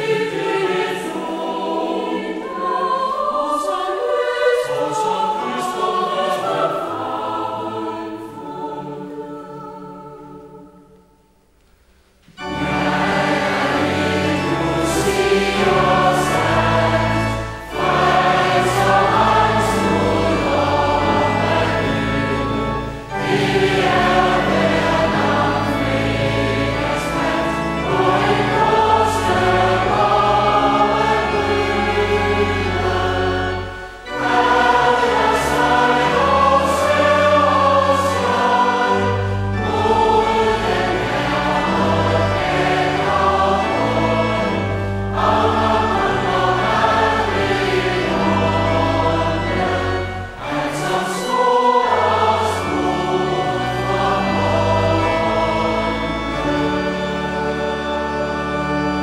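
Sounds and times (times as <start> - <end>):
choral music: 0.0 - 59.0.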